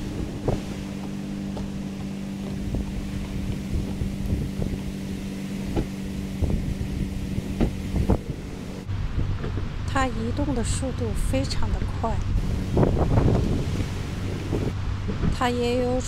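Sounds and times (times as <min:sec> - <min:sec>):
low mechanical hum: 0:00.0 - 0:16.0
wind buffeting microphone: 0:00.0 - 0:16.0.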